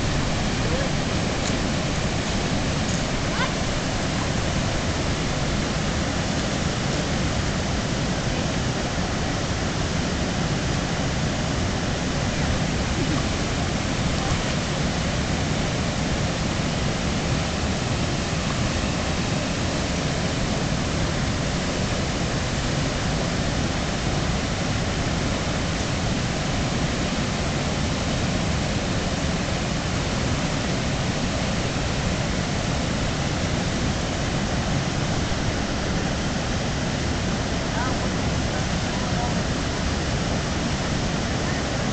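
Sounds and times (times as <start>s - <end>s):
river water rushing over rocks: 0.0s - 41.9s.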